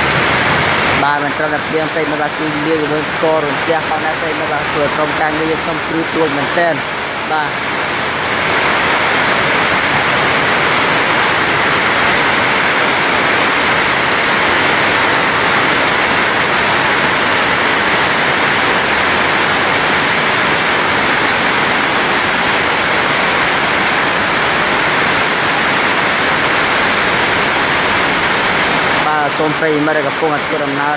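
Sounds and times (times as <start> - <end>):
heavy rain hissing: 0.0 - 30.9.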